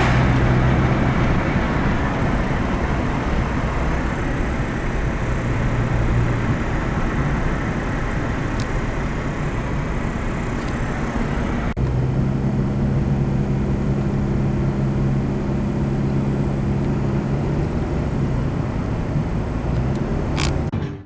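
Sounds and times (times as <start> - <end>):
car engine humming: 0.0 - 21.0
road noise: 0.0 - 21.0.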